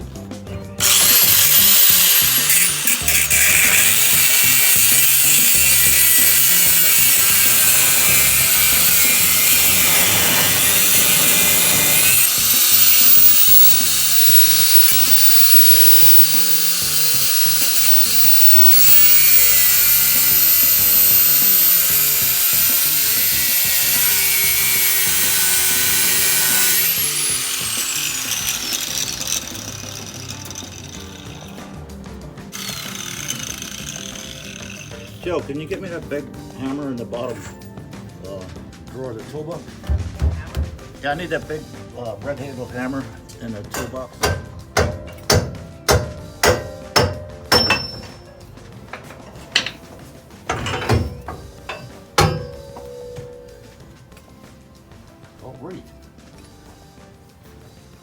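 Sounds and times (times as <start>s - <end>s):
angle grinder grinding steel: 0.7s - 37.8s, 42.4s - 55.2s.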